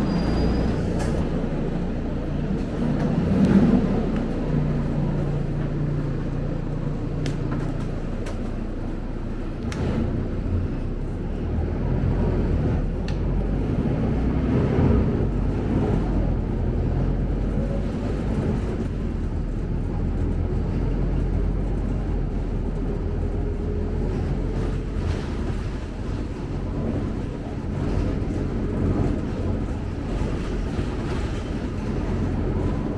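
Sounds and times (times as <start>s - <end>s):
bus engine and road rumble: 0.0s - 32.9s.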